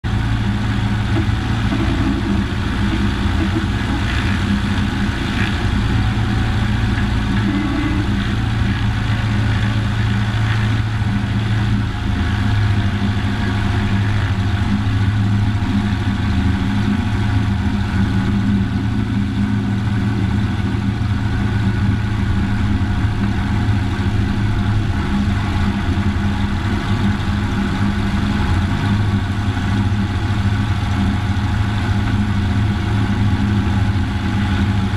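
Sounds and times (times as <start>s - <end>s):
aircraft engine running: 0.0s - 34.9s.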